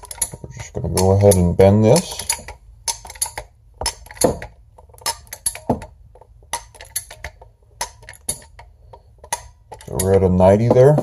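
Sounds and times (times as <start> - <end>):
sharp metallic lever clicks: 0.0 - 5.9, 6.5 - 11.0.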